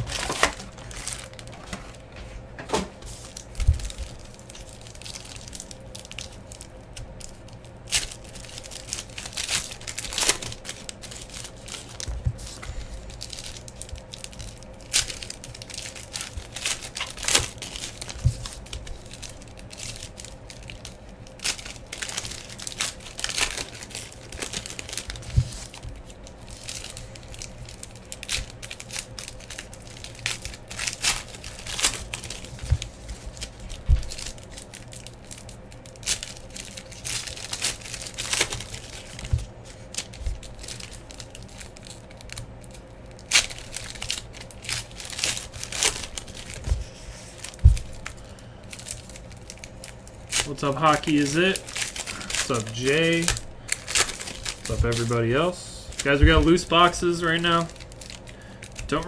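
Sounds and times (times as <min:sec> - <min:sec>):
foil wrappers tearing and crinkling: 0:00.0 - 0:02.1, 0:03.1 - 0:59.0.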